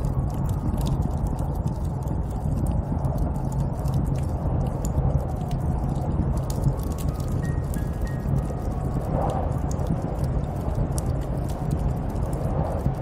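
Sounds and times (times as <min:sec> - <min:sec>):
sharp crackling clicks: 0:00.0 - 0:13.0
snowstorm wind rumbling: 0:00.0 - 0:13.0.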